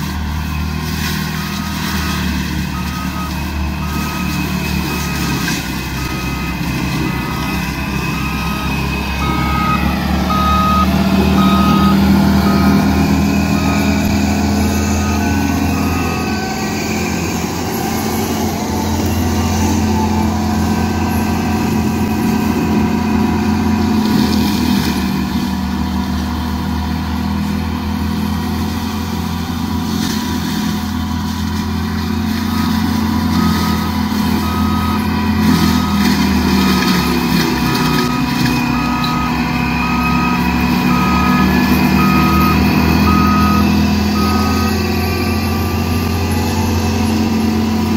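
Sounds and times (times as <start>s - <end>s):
diesel engine under load: 0.0s - 47.9s
reversing alarm beeping: 0.4s - 24.8s, 32.2s - 47.9s.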